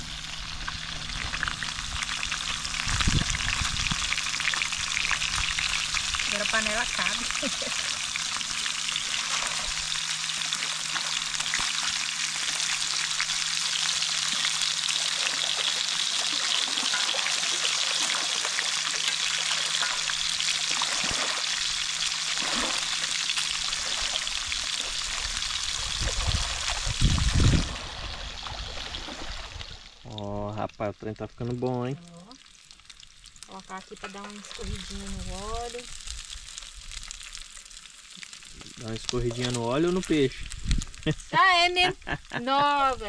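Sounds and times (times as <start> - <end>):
fish frying in hot oil: 0.0 - 30.6, 31.4 - 43.0.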